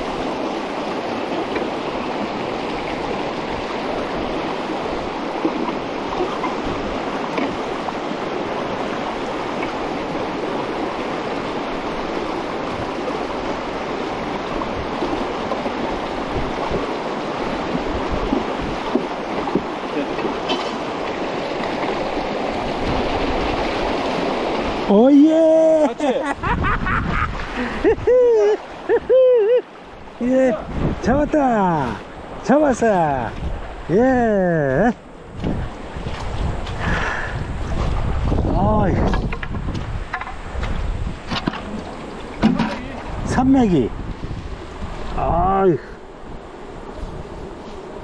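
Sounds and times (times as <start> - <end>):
stream rushing over rocks: 0.0 - 48.0.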